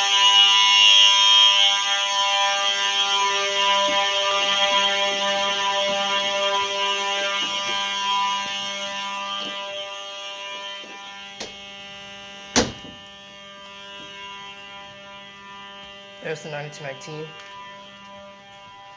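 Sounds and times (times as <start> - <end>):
buzzing fire alarm horn: 0.0 - 18.9.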